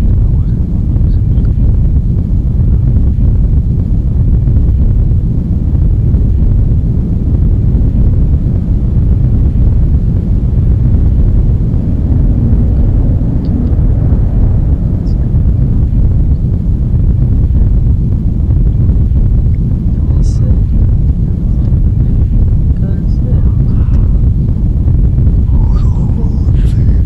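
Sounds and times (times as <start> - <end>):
loud low rumble: 0.0 - 27.0.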